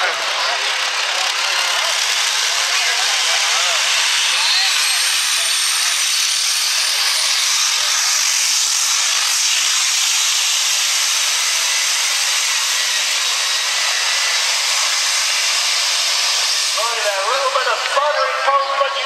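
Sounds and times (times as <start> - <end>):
pickup truck engine at full throttle: 0.0 - 18.3.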